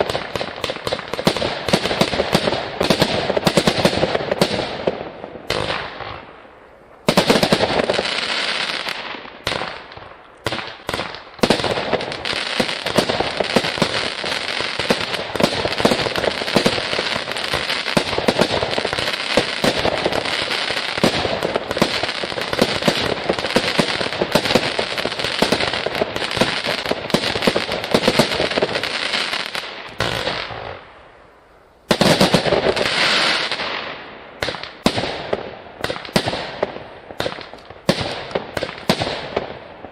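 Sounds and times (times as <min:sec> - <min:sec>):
fireworks launching and bursting: 0:00.0 - 0:31.0, 0:31.8 - 0:39.9.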